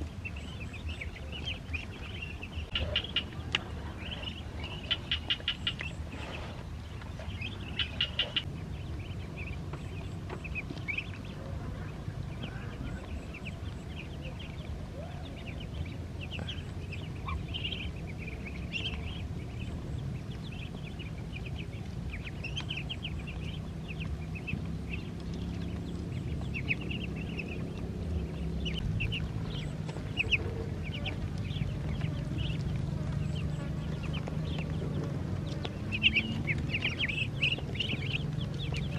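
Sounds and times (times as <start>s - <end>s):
ducklings peeping: 0.0s - 38.9s
steady low hum: 0.0s - 38.9s.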